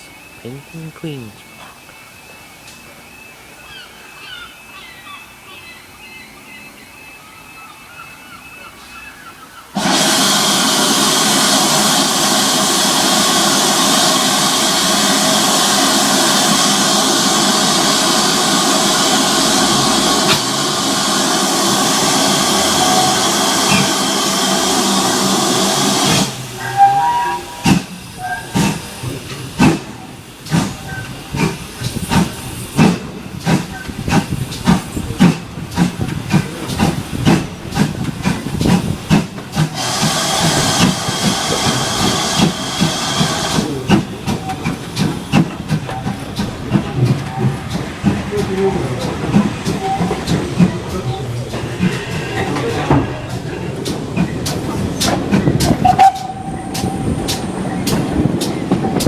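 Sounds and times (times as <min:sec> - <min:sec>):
steam hissing from locomotive: 0:09.7 - 0:59.0
locomotive exhaust beats: 0:09.8 - 0:59.0.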